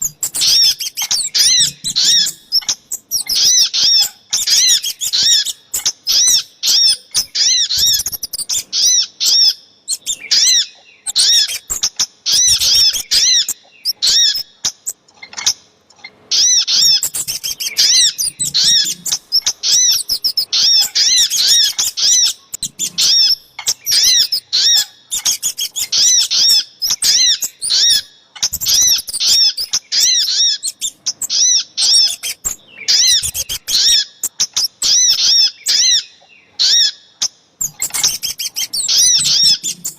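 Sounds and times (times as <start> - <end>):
recorded bird chirping: 0.0 - 39.9.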